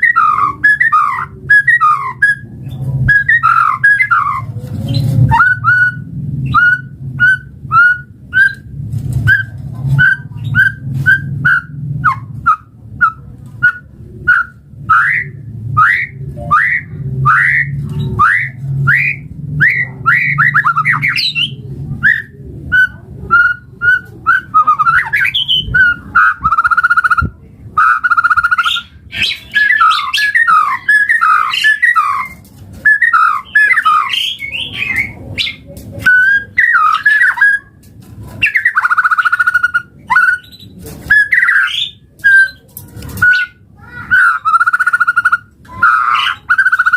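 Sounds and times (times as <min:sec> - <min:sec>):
bird singing whistles and trills: 0:00.0 - 0:37.7, 0:38.4 - 0:42.6, 0:43.2 - 0:43.6, 0:44.2 - 0:46.9.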